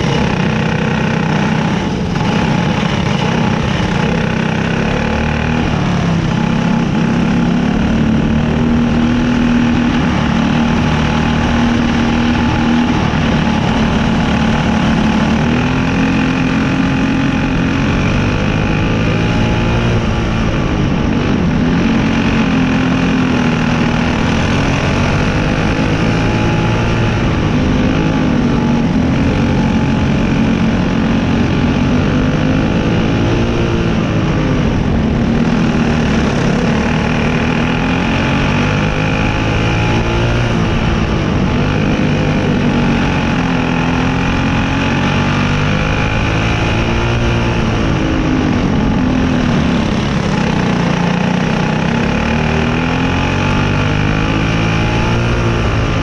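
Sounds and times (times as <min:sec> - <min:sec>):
racing car engine at low revs: 0:00.0 - 0:56.0.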